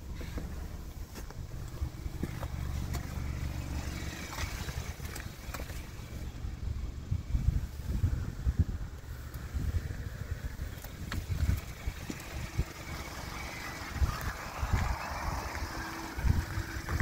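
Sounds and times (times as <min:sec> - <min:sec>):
car engine idling: 0:00.0 - 0:17.0
wind buffeting microphone: 0:00.0 - 0:17.0.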